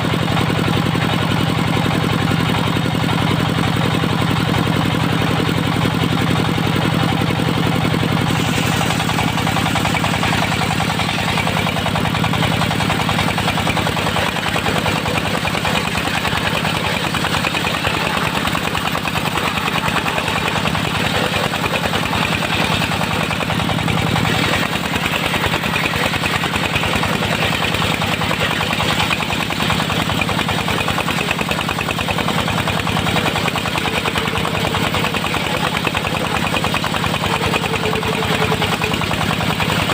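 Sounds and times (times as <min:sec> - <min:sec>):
sawmill engine pulsing: 0:00.0 - 0:39.9.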